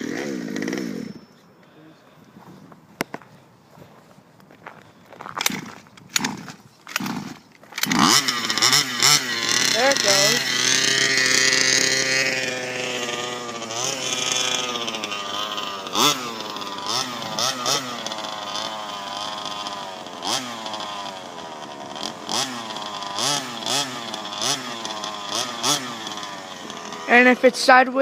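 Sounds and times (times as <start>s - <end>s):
small gas engine revving: 0.0s - 1.4s, 5.3s - 28.0s.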